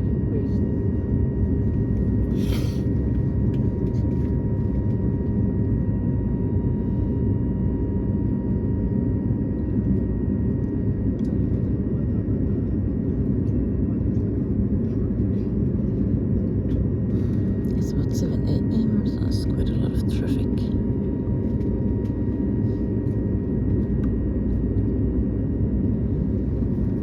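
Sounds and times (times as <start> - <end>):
aircraft cabin rumble: 0.1 - 27.0.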